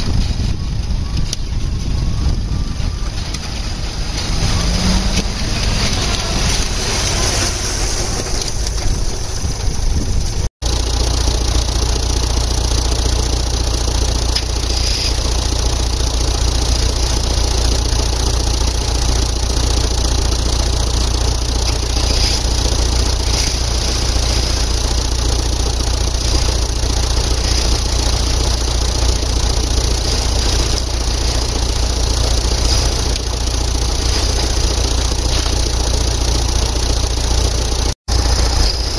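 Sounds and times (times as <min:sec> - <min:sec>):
vehicle engine running steadily: 0:00.0 - 0:38.9.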